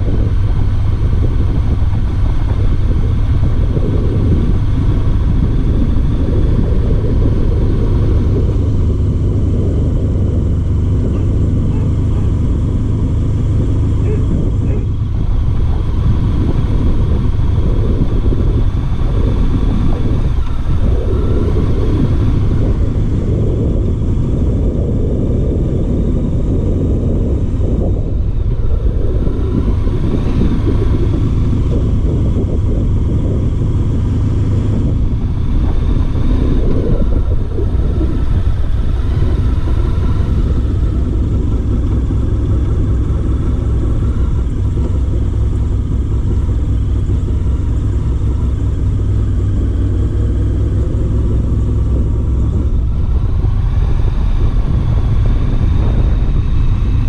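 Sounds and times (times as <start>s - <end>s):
motorcycle engine low rumble: 0.0s - 57.0s.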